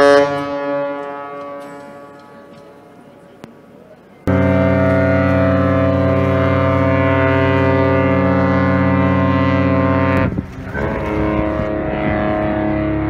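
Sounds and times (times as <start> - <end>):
ship's horn blast: 0.0 - 3.0, 4.2 - 13.0.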